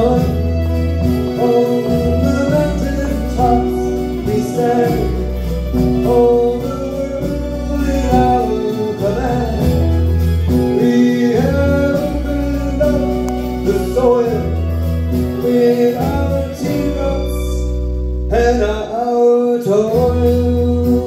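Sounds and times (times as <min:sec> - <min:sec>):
deep held bass notes: 0:00.0 - 0:18.9
acoustic guitars: 0:00.0 - 0:21.0
person singing: 0:00.0 - 0:21.0.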